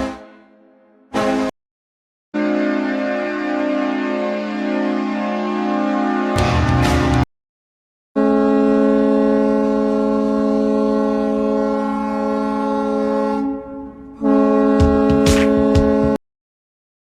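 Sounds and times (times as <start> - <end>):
goal horn blasting: 0.0 - 1.5, 2.4 - 7.2, 8.2 - 16.2.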